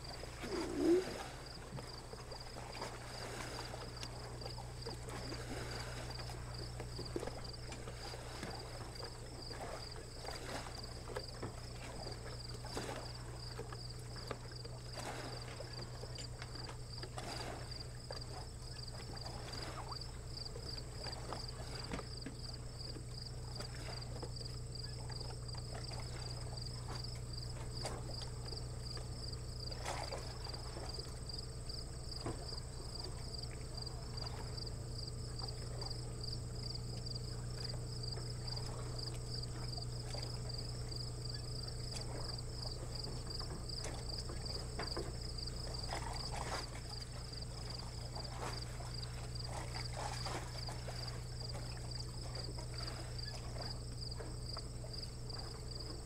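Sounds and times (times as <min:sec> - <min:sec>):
insects chirping: 0:00.0 - 0:56.0
low steady hum: 0:00.0 - 0:56.0.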